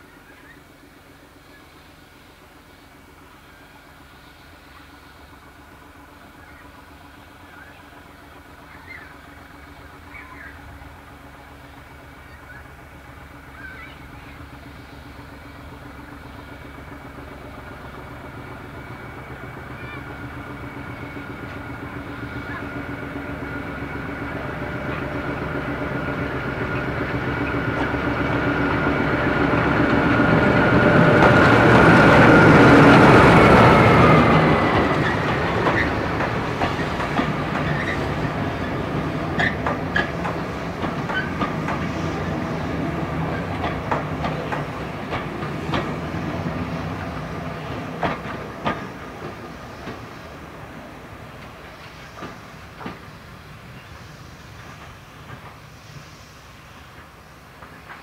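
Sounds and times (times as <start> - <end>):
diesel locomotive passing: 0.0 - 58.0
train wheels clicking over rail joints: 8.5 - 58.0.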